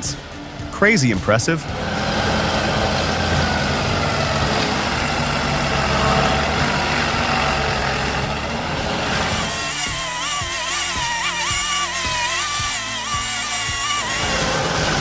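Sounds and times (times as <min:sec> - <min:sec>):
music: 0:00.0 - 0:15.0
stump grinder engine grinding: 0:01.6 - 0:15.0.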